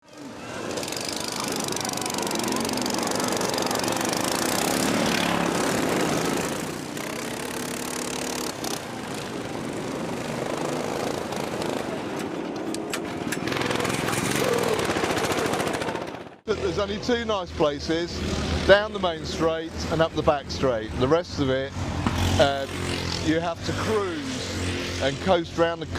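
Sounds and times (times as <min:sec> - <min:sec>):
lawn mower engines racing: 0:00.0 - 0:25.9.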